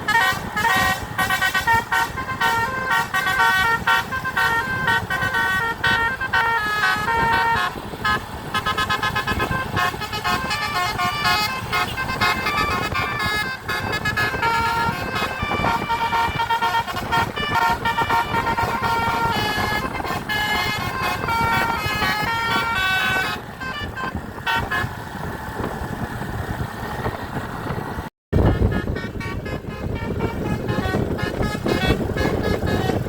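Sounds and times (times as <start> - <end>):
multi-tone bus horn tune: 0.0 - 25.4, 28.4 - 33.0
vehicle rumble: 0.0 - 33.0.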